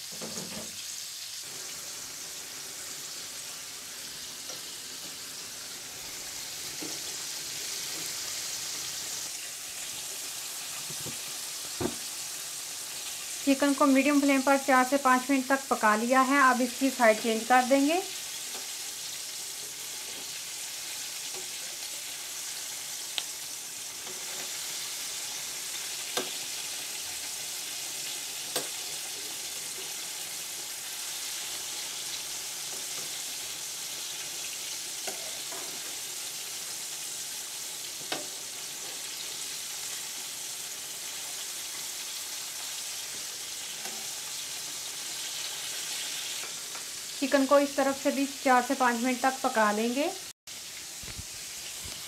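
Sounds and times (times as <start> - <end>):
oil bubbling and sizzling: 0.0 - 52.0.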